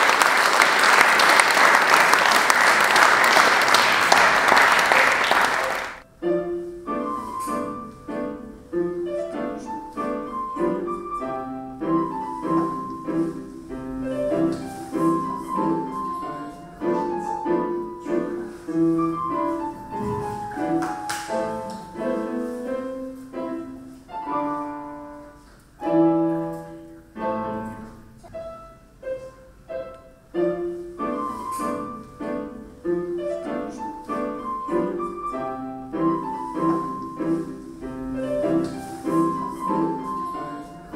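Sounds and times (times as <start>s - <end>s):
solo piano music: 6.0s - 40.9s.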